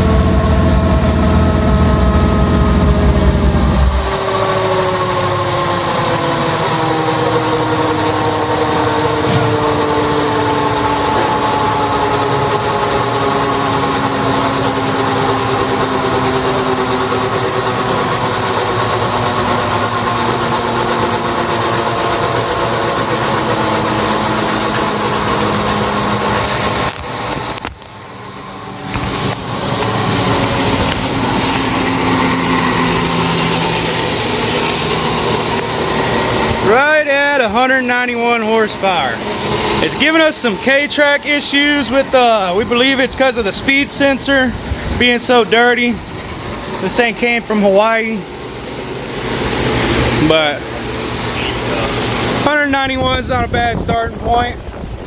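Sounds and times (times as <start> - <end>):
motorcycle engine on dyno: 0.0 - 55.0.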